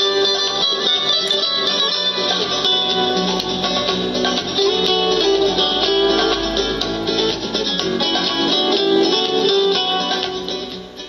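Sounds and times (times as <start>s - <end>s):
plucked string instrumental music: 0.0s - 11.0s.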